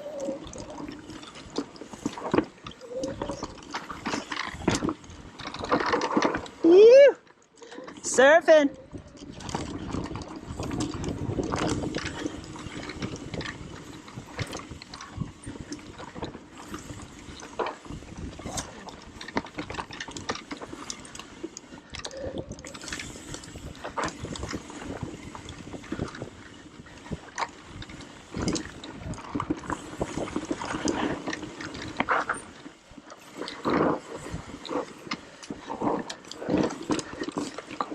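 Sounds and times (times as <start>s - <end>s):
bike clicking and rattling: 0.0s - 37.9s
bike tyres on dirt trail: 0.0s - 37.9s.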